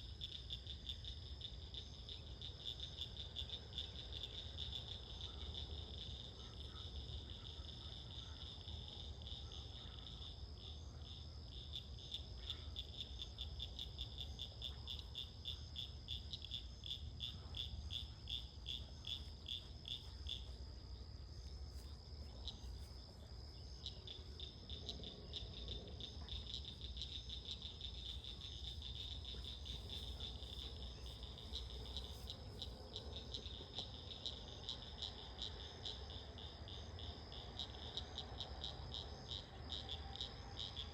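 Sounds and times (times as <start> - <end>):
frogs calling: 0.0 - 21.0, 21.8 - 40.9.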